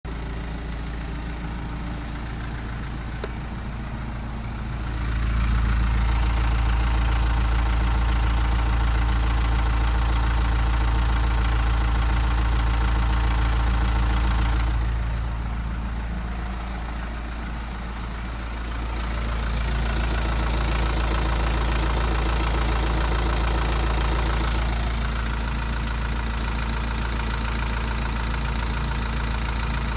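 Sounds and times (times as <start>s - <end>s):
diesel engine idling: 0.1s - 29.9s.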